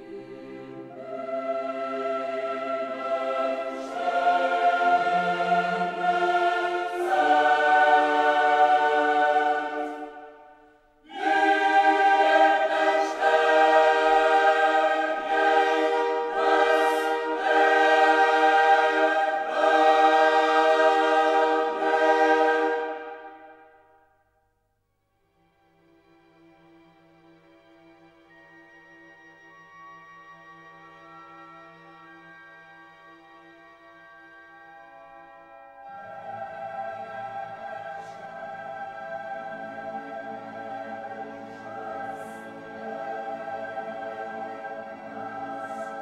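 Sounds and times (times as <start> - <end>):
slow choir-like background music: 0.0 - 24.4, 25.6 - 46.0.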